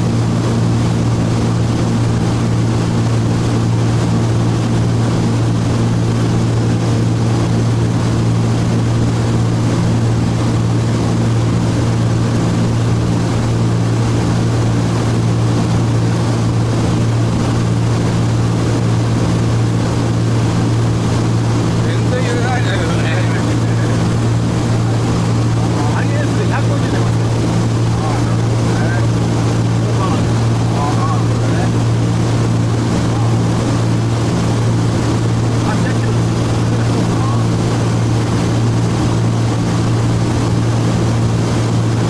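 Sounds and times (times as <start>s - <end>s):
aircraft engines droning: 0.0s - 42.0s.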